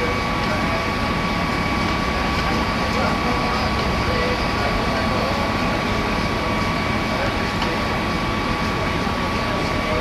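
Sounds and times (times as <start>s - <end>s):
faint crowd chatter: 0.0s - 10.0s
high machine whine: 0.0s - 10.0s
machine rumble and hiss: 0.0s - 10.0s.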